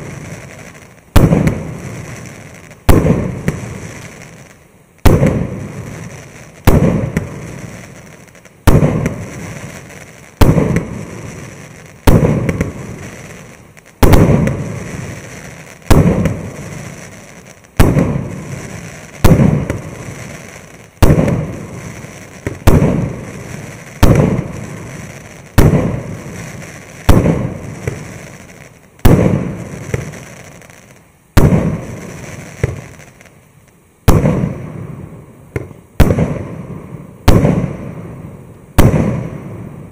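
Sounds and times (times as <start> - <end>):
firework pops and crackles: 0.0 - 39.9.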